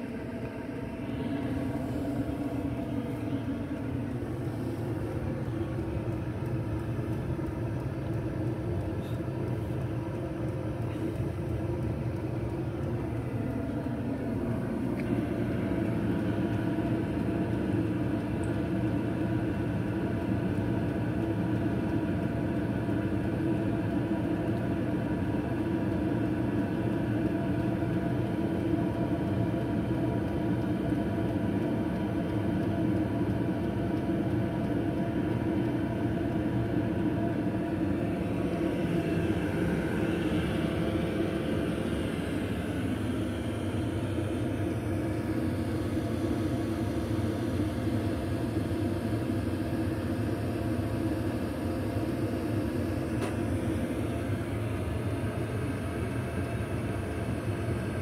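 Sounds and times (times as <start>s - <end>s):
air heater humming: 0.0s - 58.0s.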